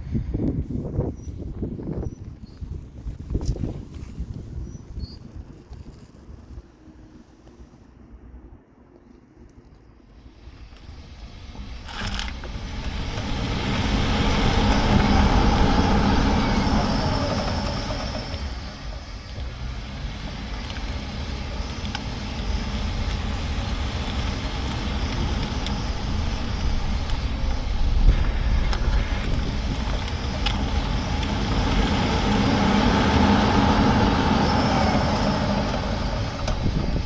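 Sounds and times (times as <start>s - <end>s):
car road and tyre noise: 0.0s - 37.0s.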